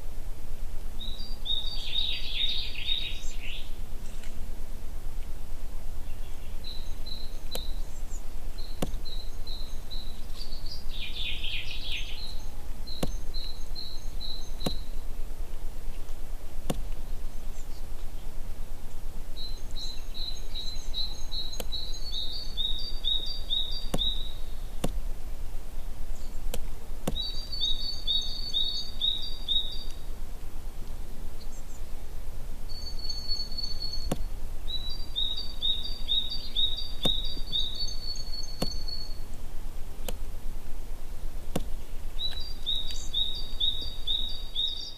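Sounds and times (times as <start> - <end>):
steady low rumble: 0.0 - 44.7
songbirds singing: 0.0 - 44.9.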